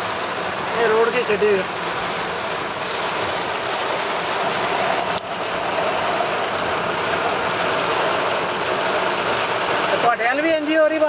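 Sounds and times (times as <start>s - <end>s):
car driving through water: 0.0s - 11.0s
heavy rain on car roof: 0.0s - 11.0s.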